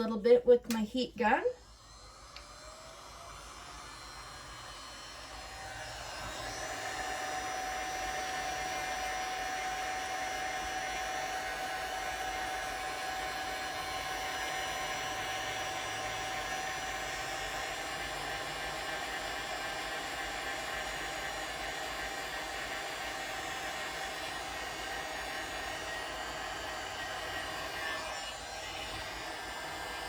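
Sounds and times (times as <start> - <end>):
heat gun blowing: 0.7 - 30.0.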